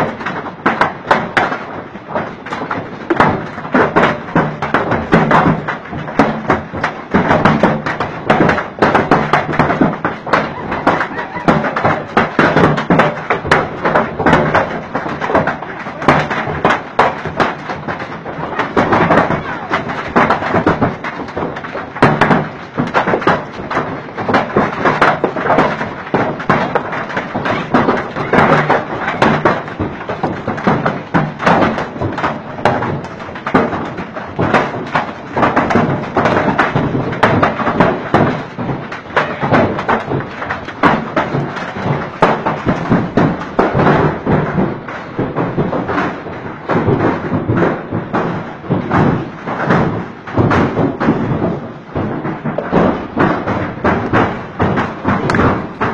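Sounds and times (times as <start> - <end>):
hail clattering: 0.0 - 55.9.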